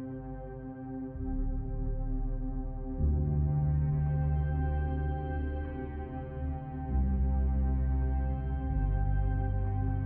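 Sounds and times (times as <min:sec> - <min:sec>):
ambient synth music: 0:00.0 - 0:10.0.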